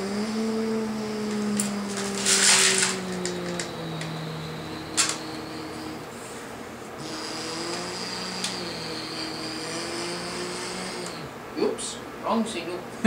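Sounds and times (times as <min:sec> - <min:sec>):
electronic engine-like hum: 0:00.0 - 0:06.3, 0:07.0 - 0:11.4
thin high whine: 0:00.0 - 0:12.0.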